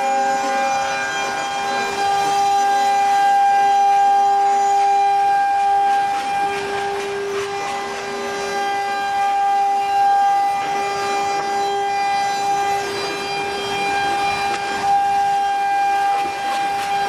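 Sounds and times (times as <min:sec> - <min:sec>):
bit cutting fibreboard: 0:00.0 - 0:17.0
router spindle high whine: 0:00.0 - 0:17.0.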